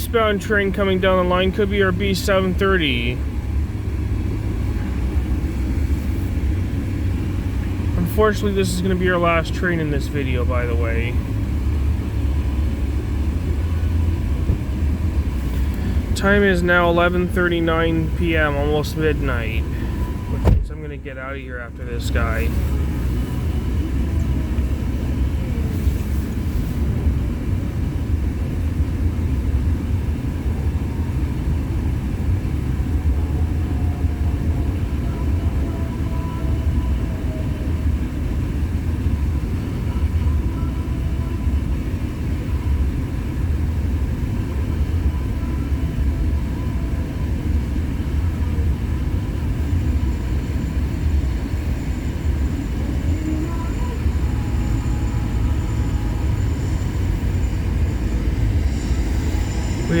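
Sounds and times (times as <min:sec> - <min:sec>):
freight train rumbling past: 0:00.0 - 1:00.0.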